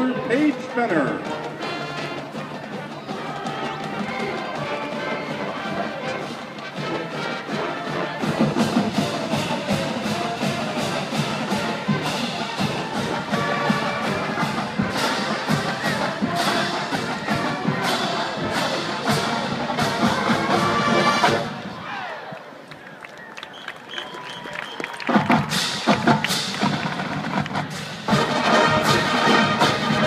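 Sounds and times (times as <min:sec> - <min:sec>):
marching band brass and drums: 0:00.0 - 0:22.7, 0:23.5 - 0:30.0.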